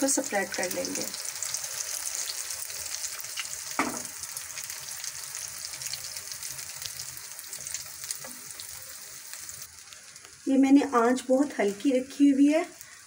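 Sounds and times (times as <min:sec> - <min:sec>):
eggs sizzling in a frying pan: 0:00.0 - 0:13.0.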